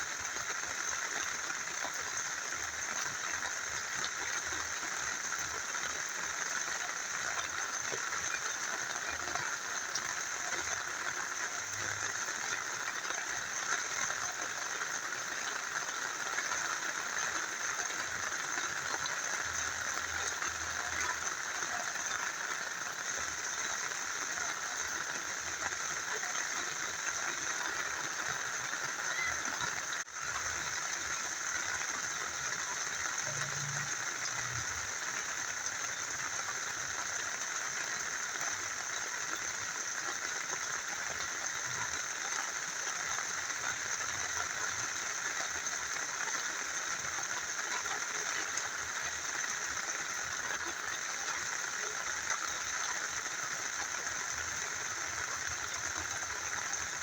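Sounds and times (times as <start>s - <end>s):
small river flowing: 0.0s - 57.0s
steady rain: 0.0s - 57.0s.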